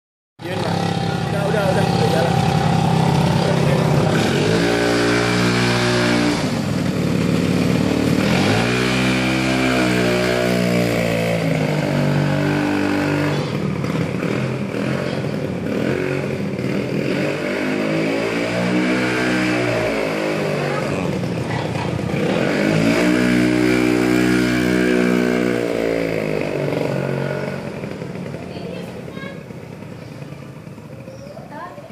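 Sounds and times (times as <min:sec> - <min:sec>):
scooter engine revving: 0:00.4 - 0:31.9.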